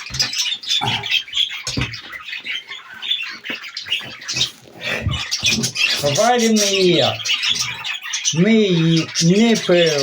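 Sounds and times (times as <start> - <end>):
parrots chattering and squawking: 0.0 - 10.0.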